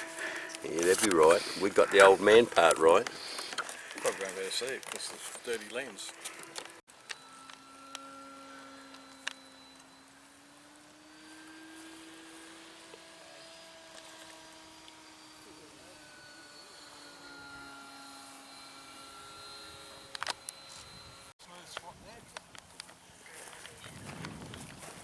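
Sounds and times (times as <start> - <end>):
model plane motor drone: 0.0 - 25.0.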